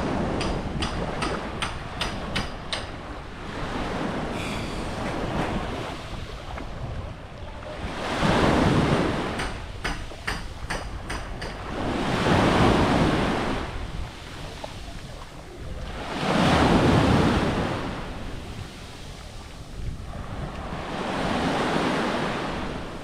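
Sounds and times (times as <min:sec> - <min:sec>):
waves washing on beach: 0:00.0 - 0:23.0
wind on microphone: 0:00.0 - 0:23.0.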